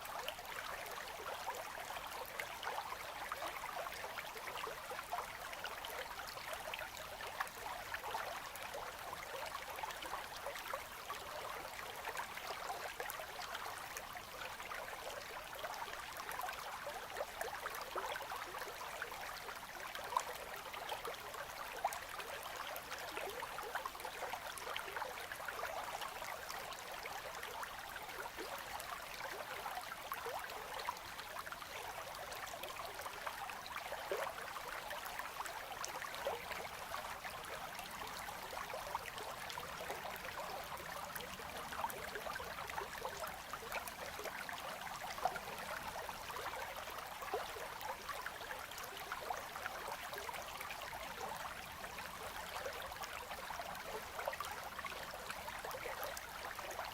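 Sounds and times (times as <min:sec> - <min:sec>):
water trickling and gurgling: 0:00.0 - 0:56.9.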